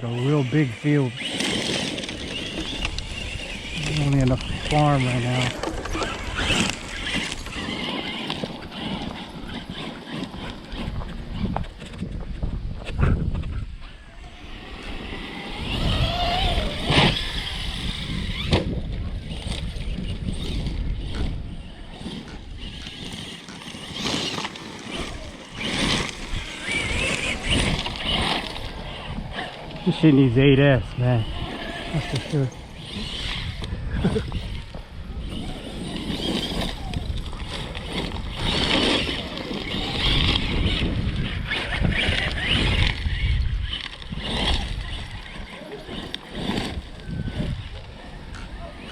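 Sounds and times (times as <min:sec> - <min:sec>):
electric motor whining: 0:00.0 - 0:48.9
wind rumble on microphone: 0:01.4 - 0:48.9.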